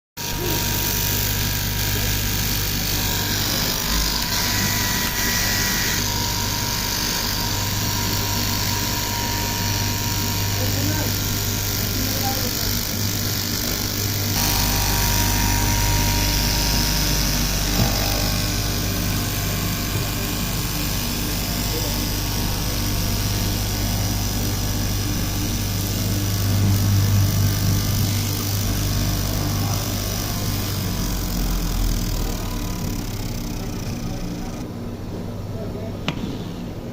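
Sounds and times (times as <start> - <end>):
sewing machine whirring: 0.2 - 34.7
low hum: 1.0 - 35.2.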